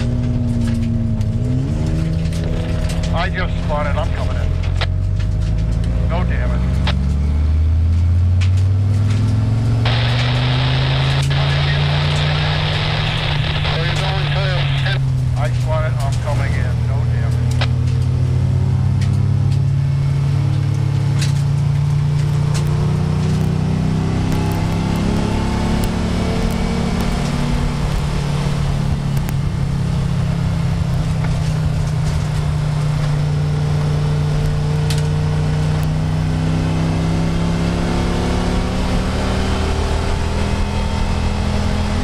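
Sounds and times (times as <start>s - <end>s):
race car engine running hard: 0.0s - 42.0s
road and wind noise: 0.0s - 42.0s.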